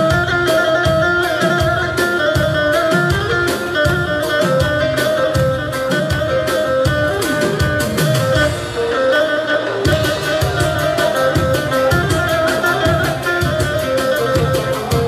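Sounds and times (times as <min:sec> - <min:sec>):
keyboard melody: 0:00.0 - 0:15.0
steady drum beat: 0:00.0 - 0:15.0.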